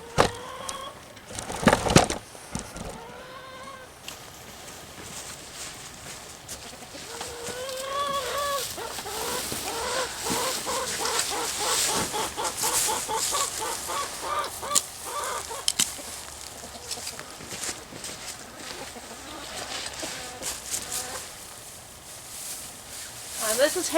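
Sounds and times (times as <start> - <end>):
poultry calling: 0.0 - 1.1, 2.4 - 4.0, 4.6 - 23.9.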